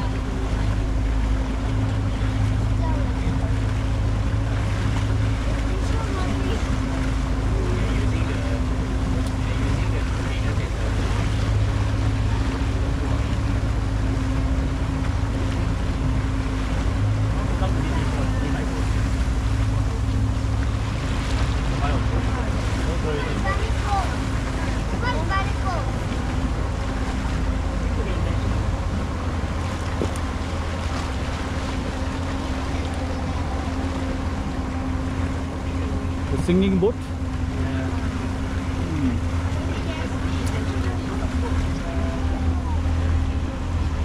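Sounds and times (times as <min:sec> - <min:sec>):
motorboat engine humming: 0:00.0 - 0:44.0
water rushing along hull: 0:00.0 - 0:44.0
wind: 0:00.0 - 0:44.0.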